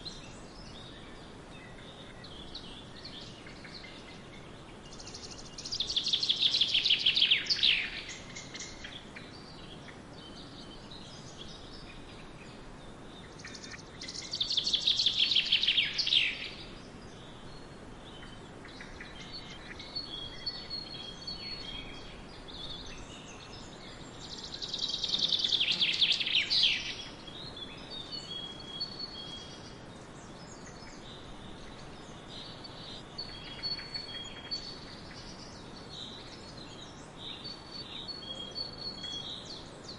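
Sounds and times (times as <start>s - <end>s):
birds chirping softly: 0.0s - 39.9s.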